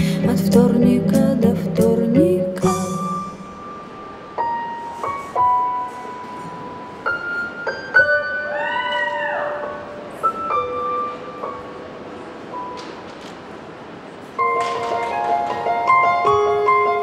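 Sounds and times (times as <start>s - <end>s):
slow piano-like notes: 0.0s - 17.0s.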